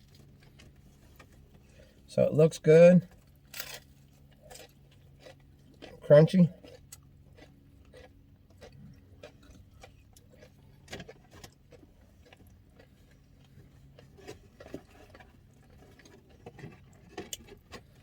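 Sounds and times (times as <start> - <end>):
chewing crunchy food: 0.0 - 2.1, 3.0 - 18.0
steady low hum: 0.0 - 18.0.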